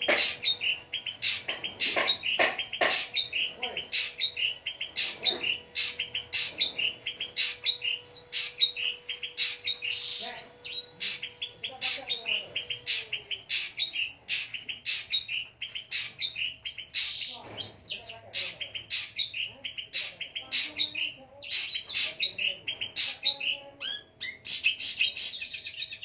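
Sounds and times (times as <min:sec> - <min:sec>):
bird singing rapid chirps: 0:00.0 - 0:26.0.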